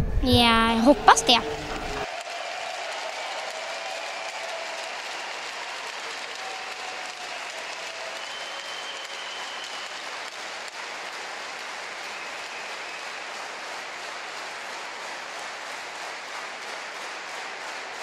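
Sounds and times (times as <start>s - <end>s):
crowd applauding: 0.7s - 18.0s.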